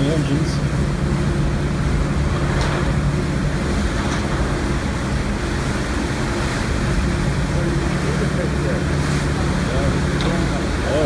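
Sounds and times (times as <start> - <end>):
churning propeller water: 0.0 - 11.0
steam engine rumble: 0.0 - 11.0.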